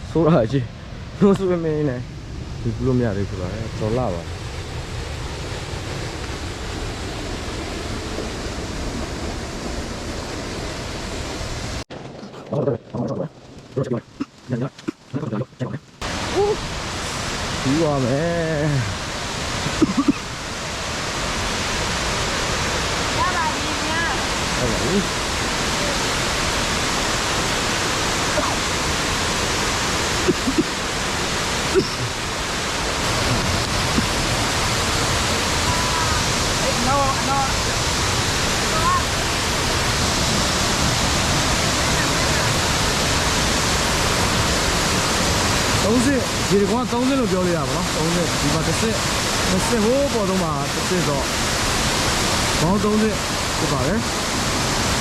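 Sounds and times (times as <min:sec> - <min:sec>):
waterfall rushing: 0:00.0 - 0:11.9, 0:12.9 - 0:55.0.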